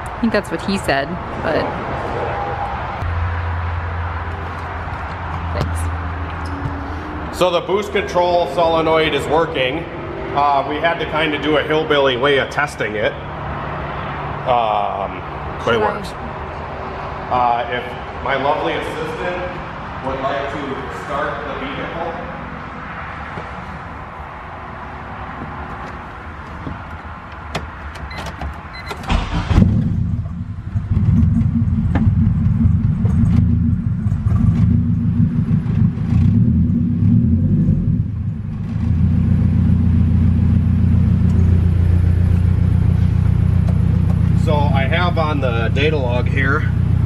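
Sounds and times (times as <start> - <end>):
car engine starting and idling: 0.0 - 19.5, 24.9 - 47.0.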